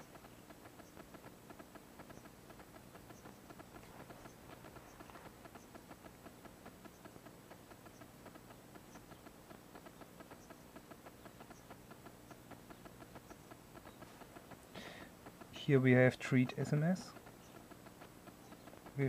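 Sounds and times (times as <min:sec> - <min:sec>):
faint rapid ticking: 0:00.0 - 0:19.0.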